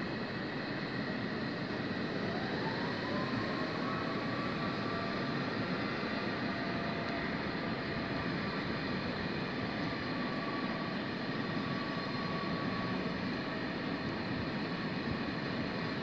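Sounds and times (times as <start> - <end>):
faint whining tones: 0.0 - 16.0.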